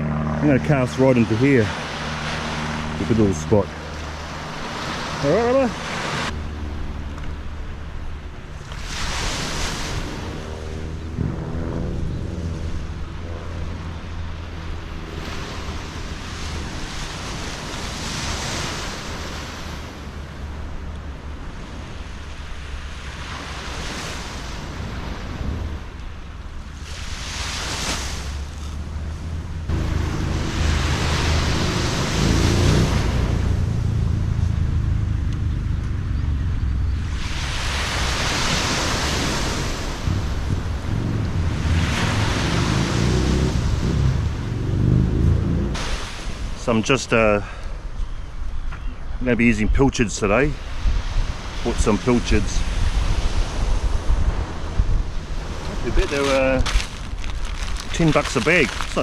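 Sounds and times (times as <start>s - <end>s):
surf breaking ashore: 0.0s - 35.3s, 36.7s - 59.0s
wind rumbling on microphone: 0.0s - 46.6s, 47.8s - 59.0s.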